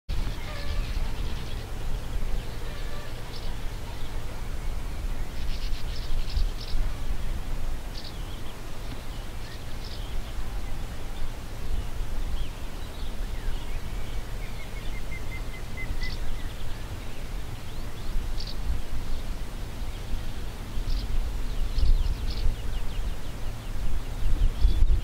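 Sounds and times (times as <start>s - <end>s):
small birds chirping: 0.1s - 25.0s
wind buffeting microphone: 0.1s - 25.0s.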